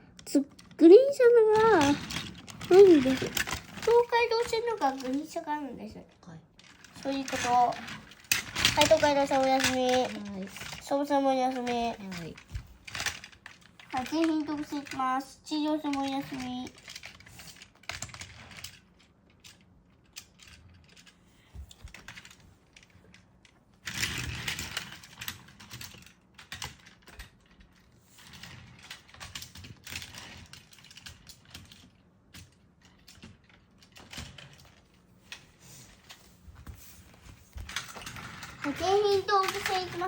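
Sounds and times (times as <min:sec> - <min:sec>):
plastic toy trains clattering: 0:00.2 - 0:40.0.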